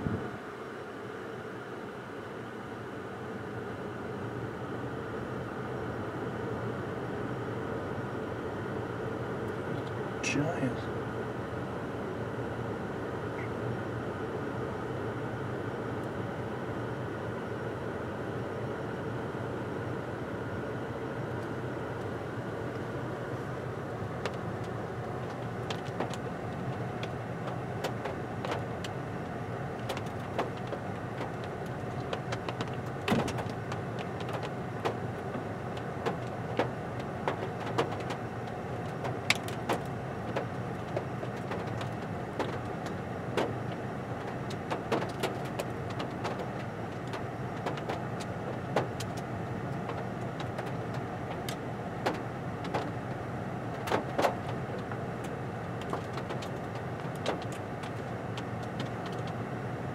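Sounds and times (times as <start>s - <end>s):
car engine hum inside cabin: 0.0s - 59.9s.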